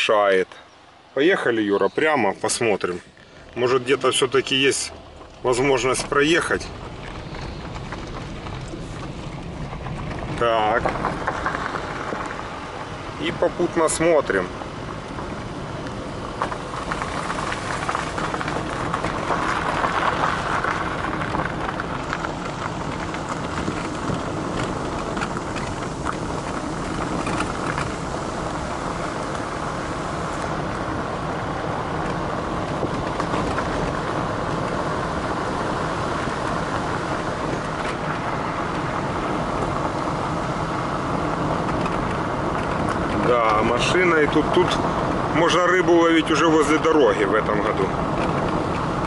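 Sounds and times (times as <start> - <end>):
car engine and tyres on road: 0.0 - 49.0.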